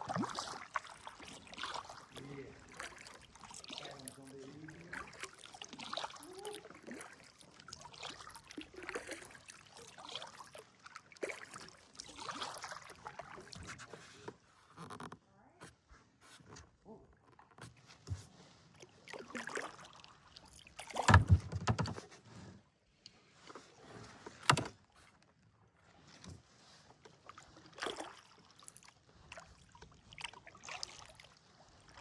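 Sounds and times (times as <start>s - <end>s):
kayak paddle splashing: 0.0s - 15.0s, 17.4s - 22.2s, 23.5s - 25.2s, 26.9s - 32.0s.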